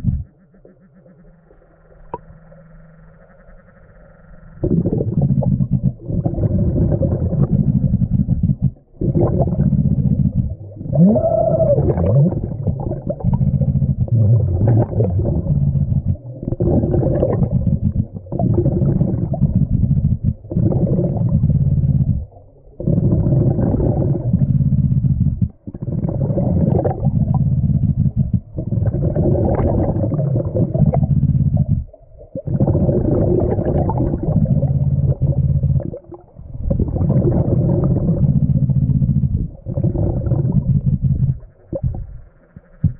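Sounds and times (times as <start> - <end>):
diver breathing underwater bubbles: 4.6 - 42.9.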